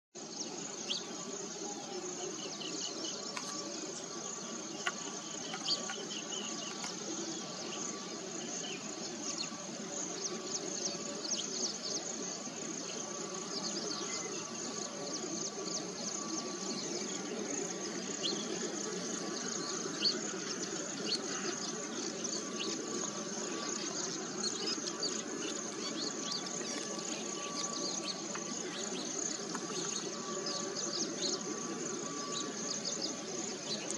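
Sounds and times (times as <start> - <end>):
insects droning: 0.2 - 33.9.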